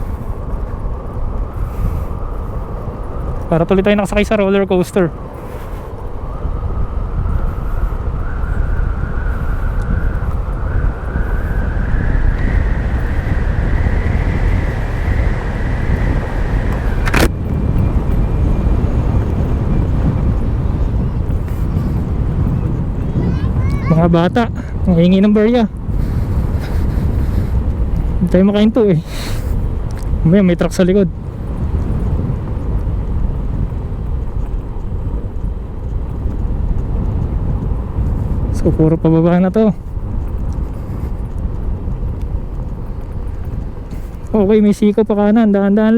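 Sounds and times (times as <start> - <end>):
scooter high whine: 0.0 - 44.4
road noise: 0.0 - 45.9
wind rumble on microphone: 0.0 - 45.9.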